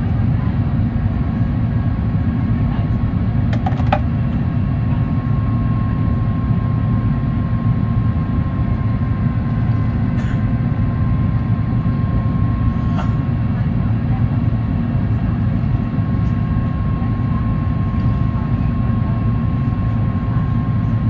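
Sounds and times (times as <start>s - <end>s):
low rumble of airflow and engines: 0.0s - 21.0s.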